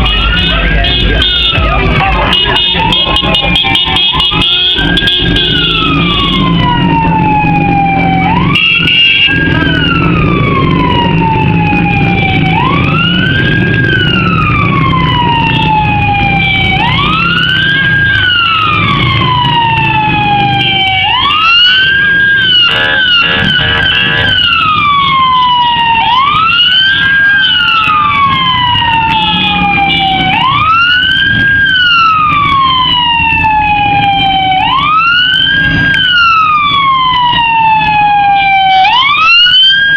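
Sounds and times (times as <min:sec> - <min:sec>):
motorcycle and car engines: 0:00.0 - 0:39.9
siren wailing: 0:00.0 - 0:39.9.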